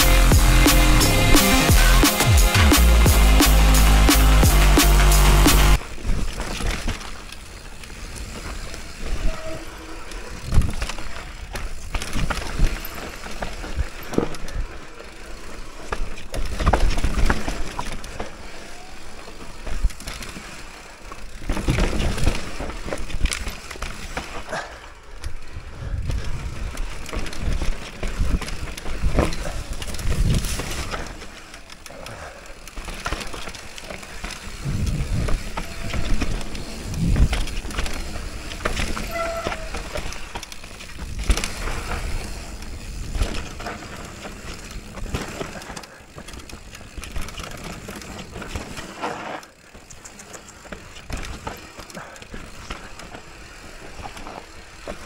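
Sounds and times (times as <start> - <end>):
bike tyres rumbling over rocks: 5.8 - 55.0.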